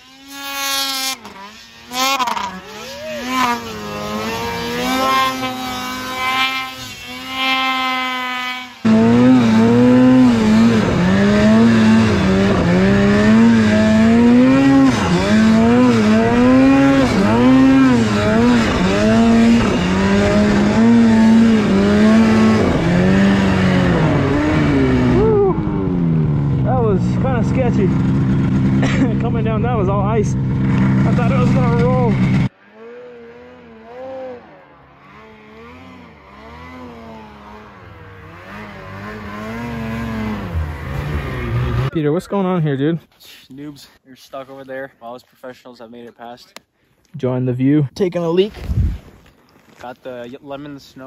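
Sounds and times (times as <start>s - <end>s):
snowmobile engine revving: 0.0s - 42.5s.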